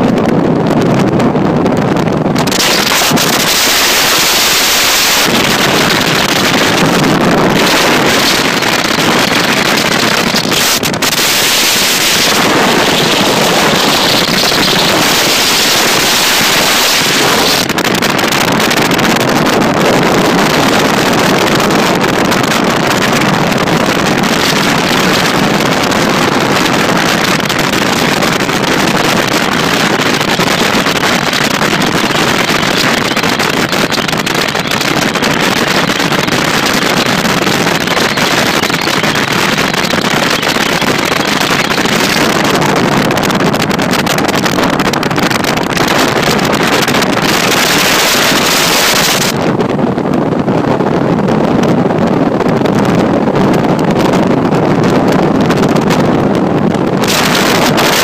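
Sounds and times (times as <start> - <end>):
outboard motor running: 0.0 - 58.0
wind rushing on microphone: 0.0 - 58.0.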